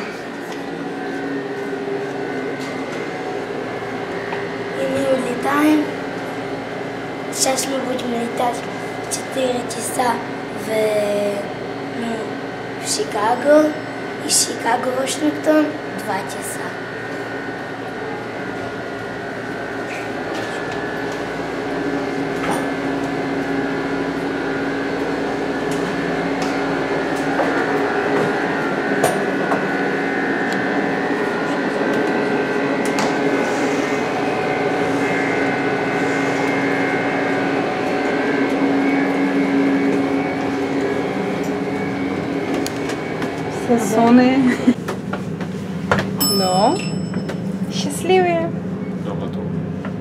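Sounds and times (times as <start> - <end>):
mechanical hum with held tones: 0.0 - 50.0.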